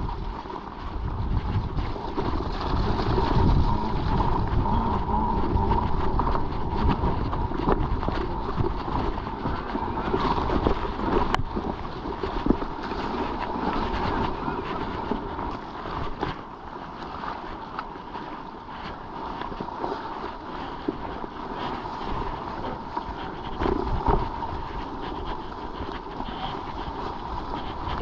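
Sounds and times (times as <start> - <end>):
bike rattling on rough trail: 0.0 - 28.0
wind buffeting microphone: 0.0 - 28.0.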